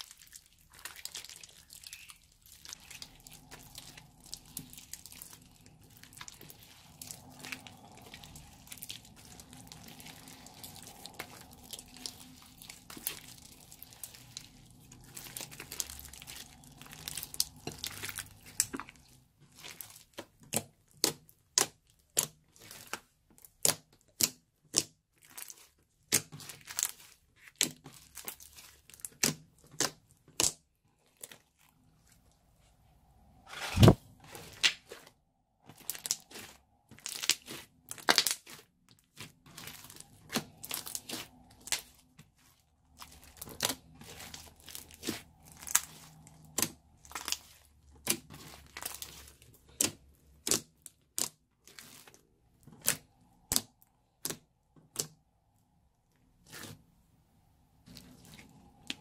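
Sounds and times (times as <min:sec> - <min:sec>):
crunchy slime crackling: 0:00.0 - 0:32.4, 0:33.5 - 0:55.2, 0:57.8 - 0:59.0.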